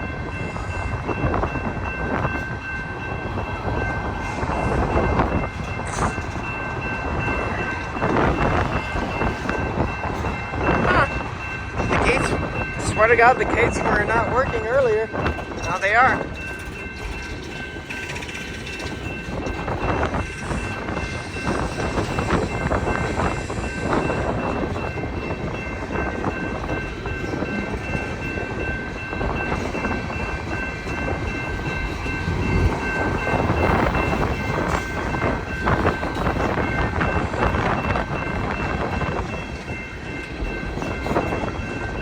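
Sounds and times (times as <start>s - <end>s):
crossing warning bell ringing: 0.0s - 42.0s
train wheels clacking on rails: 0.0s - 42.0s
wind rumbling on microphone: 0.0s - 42.0s.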